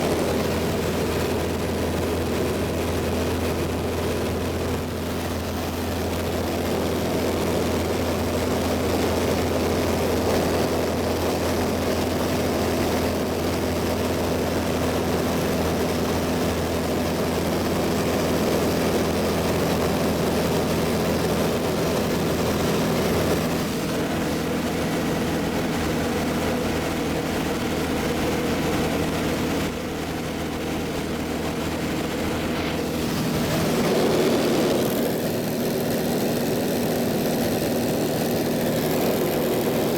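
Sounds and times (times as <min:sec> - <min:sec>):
propeller airplane engine droning: 0:00.0 - 0:39.9.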